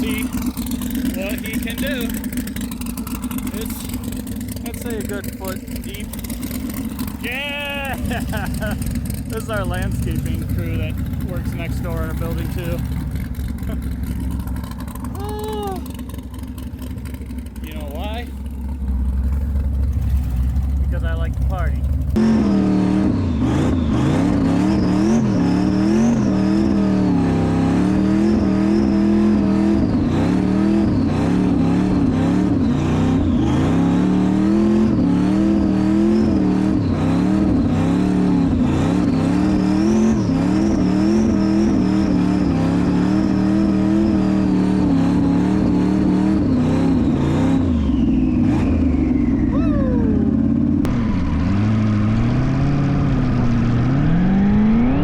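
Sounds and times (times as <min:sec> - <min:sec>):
car engine revving: 0:00.0 - 0:55.0
high engine whine: 0:00.0 - 0:55.0.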